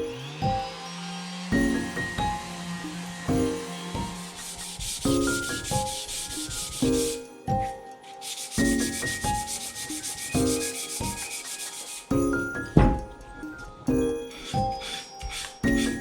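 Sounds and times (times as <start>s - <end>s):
wood sanding rasping hiss: 0.0s - 13.1s, 14.3s - 16.0s
soft melodic background music: 0.0s - 16.0s.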